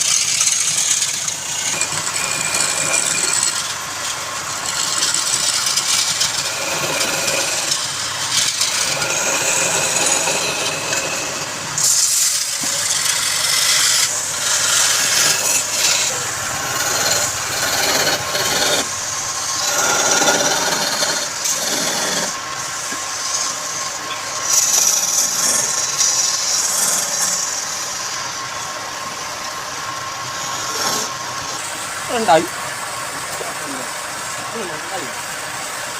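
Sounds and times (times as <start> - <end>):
lathe tool rasping on wood: 0.0 - 28.2, 30.2 - 35.2.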